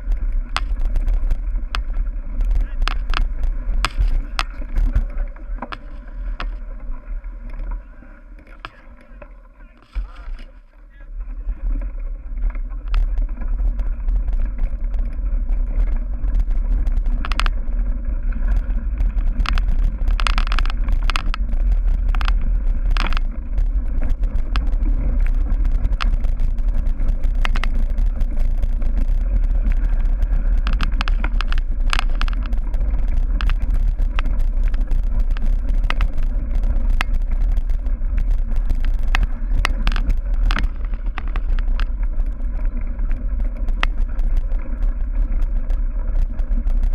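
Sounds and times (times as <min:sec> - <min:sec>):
bike rattling over bumps: 0:00.0 - 0:46.9
bike ride vibration rumble: 0:00.0 - 0:46.9.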